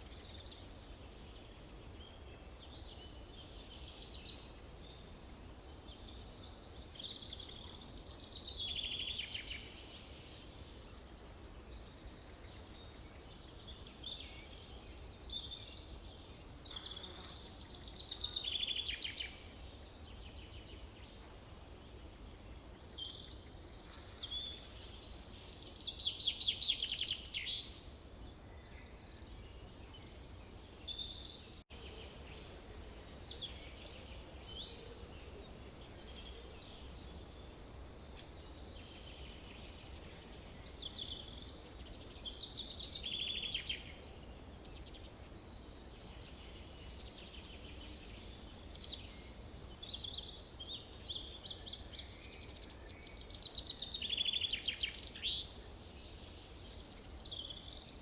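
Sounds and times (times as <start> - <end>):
faint background noise: 0.0 - 58.0.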